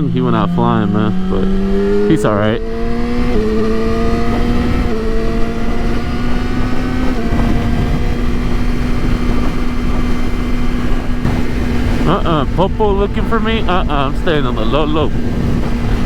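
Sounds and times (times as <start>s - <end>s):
motorcycle engine running: 0.0s - 16.0s
wind noise on microphone: 1.4s - 16.0s.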